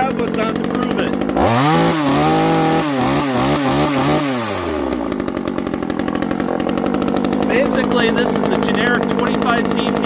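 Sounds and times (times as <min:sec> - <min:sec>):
chainsaw engine revving and idling: 0:00.0 - 0:10.0.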